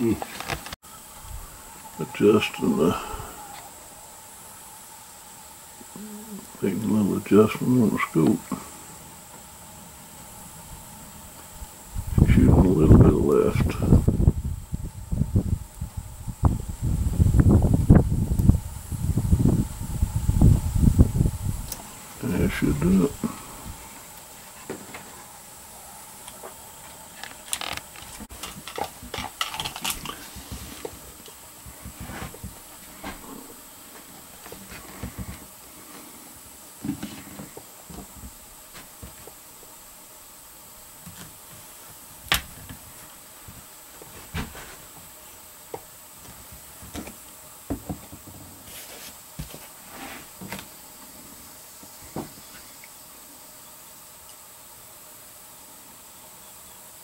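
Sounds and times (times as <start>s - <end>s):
faint steady hiss: 0.0s - 57.0s.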